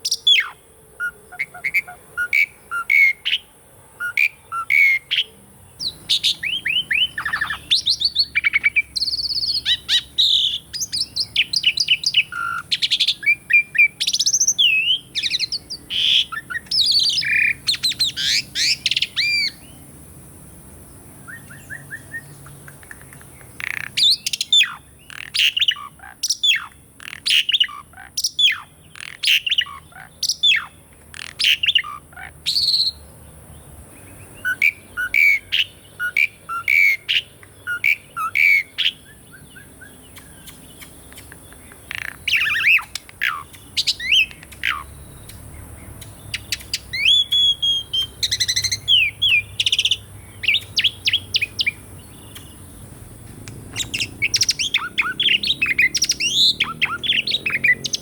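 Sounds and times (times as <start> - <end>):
starling singing: 0.0 - 19.8, 21.2 - 33.0, 34.1 - 58.0.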